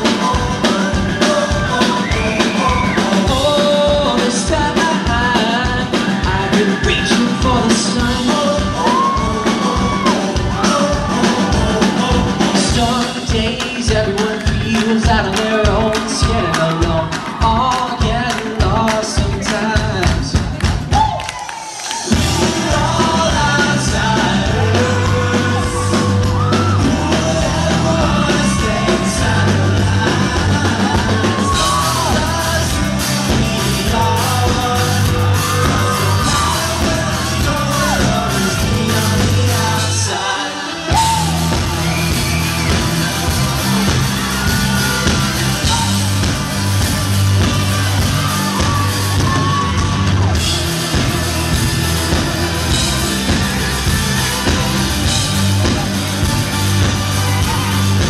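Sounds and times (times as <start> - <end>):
man singing: 0.0 - 20.8, 22.0 - 58.0
rock band playing: 0.0 - 58.0.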